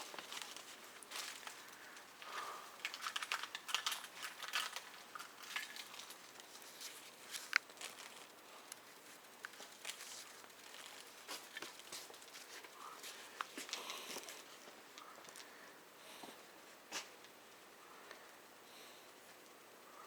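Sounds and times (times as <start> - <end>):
rustling and crinkling clicks: 0.0 - 18.2.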